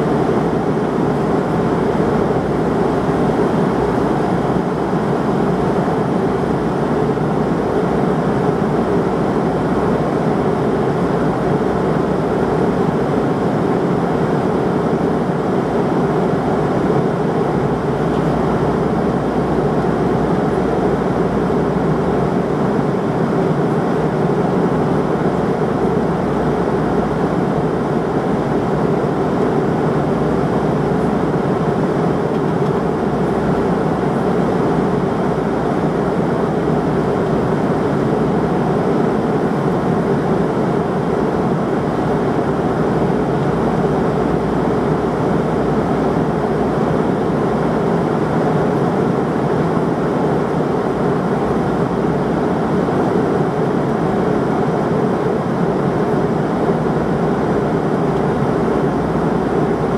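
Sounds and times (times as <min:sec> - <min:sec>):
airliner cabin roar: 0:00.0 - 0:59.9.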